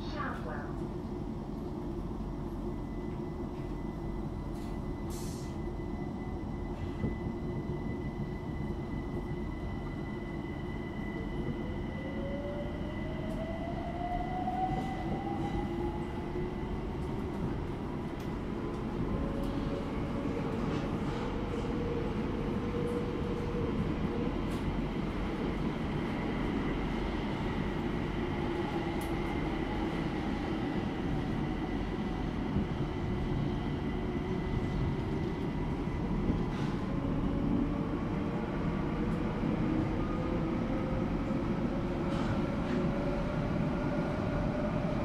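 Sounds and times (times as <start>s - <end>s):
train rumble from inside: 0.0s - 45.0s.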